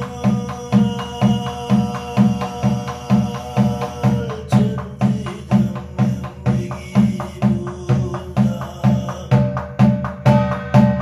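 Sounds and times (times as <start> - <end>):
barrel drum beaten in steady rhythm: 0.0 - 11.0
person chanting: 0.0 - 11.0.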